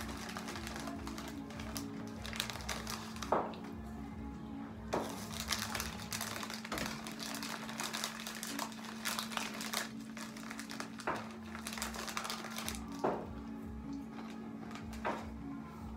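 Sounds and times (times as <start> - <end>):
foil bag rustling: 0.0 - 3.7, 5.0 - 13.5, 14.1 - 15.4.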